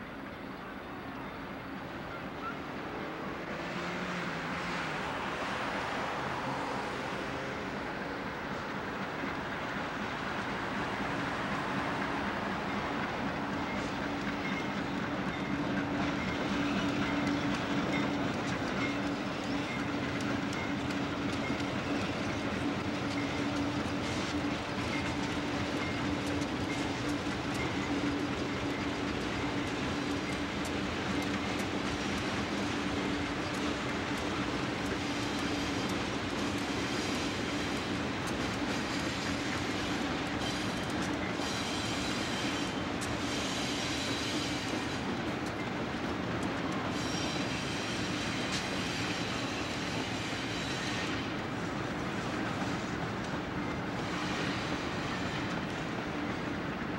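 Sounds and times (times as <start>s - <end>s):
diesel locomotive engine drone: 0.0s - 56.9s
train wheels clicking over rails: 3.4s - 56.9s.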